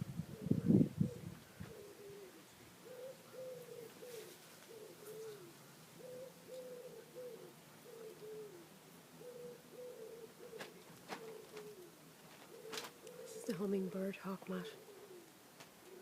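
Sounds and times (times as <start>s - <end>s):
pigeon cooing: 0.3s - 13.9s, 14.6s - 16.0s.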